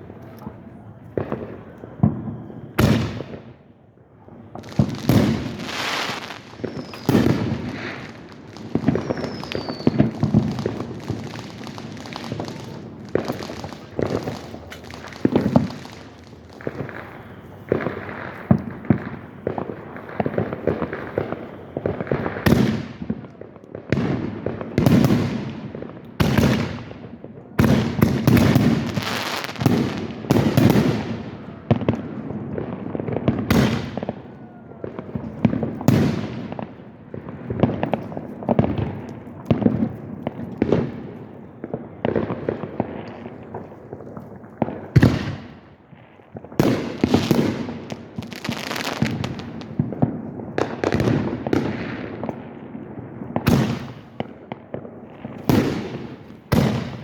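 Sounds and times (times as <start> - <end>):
fireworks bangs and booms: 0.0 - 57.0.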